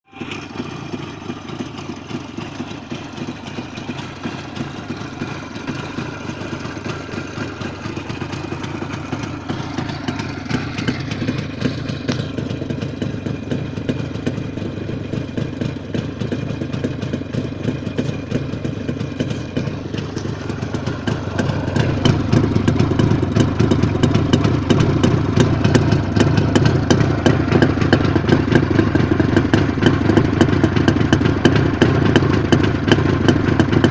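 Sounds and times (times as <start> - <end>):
two-stroke motorcycle engine running: 0.0 - 33.9.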